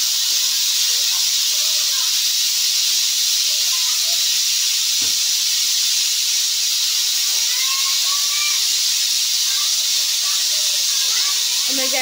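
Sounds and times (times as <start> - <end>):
pressure cooker hissing: 0.0 - 12.0.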